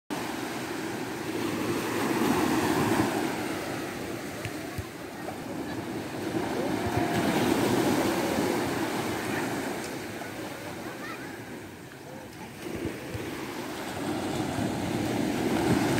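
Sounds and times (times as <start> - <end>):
small waves breaking on beach: 0.1 - 15.9.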